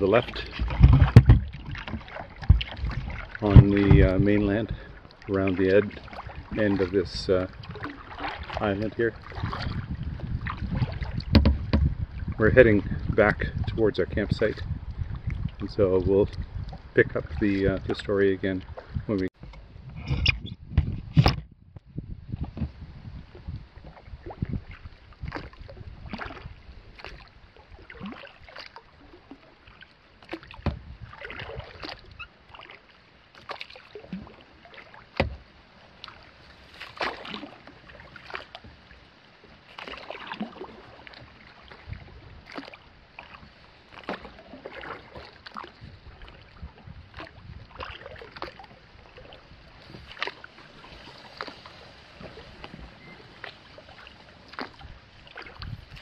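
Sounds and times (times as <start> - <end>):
kayak paddle splashing water: 0.0 - 20.3, 22.3 - 56.0.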